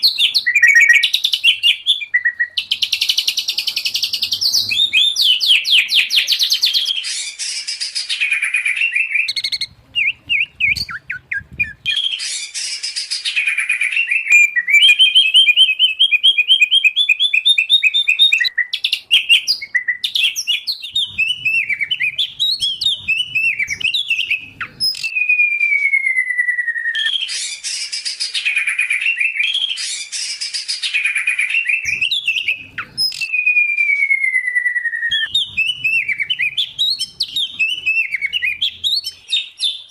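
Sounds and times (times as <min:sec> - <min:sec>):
long falling bird whistle: 0:00.0 - 0:03.2, 0:04.3 - 0:39.9
songbird trills and chatter: 0:00.0 - 0:25.2, 0:27.3 - 0:33.3, 0:35.1 - 0:39.9.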